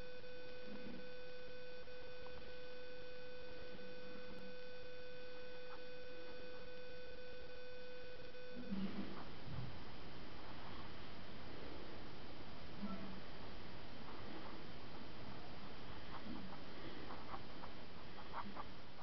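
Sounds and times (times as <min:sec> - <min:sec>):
steady electrical whine: 0:00.0 - 0:19.0.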